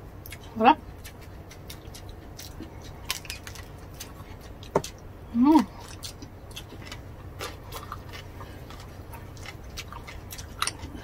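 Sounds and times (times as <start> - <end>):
close-up chewing: 0.2 - 11.0.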